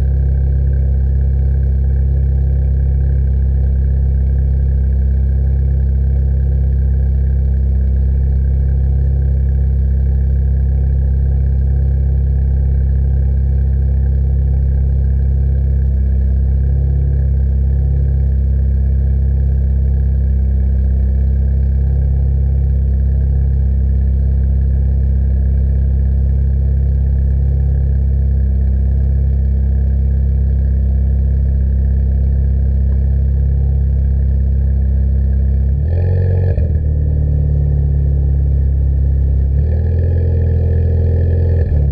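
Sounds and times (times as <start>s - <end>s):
car engine droning steadily: 0.0s - 41.9s.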